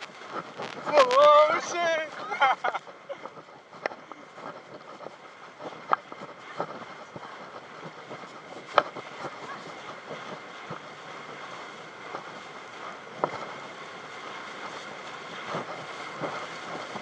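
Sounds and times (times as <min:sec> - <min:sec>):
water noise: 0:00.0 - 0:17.0
wind rushing over microphone: 0:00.0 - 0:17.0.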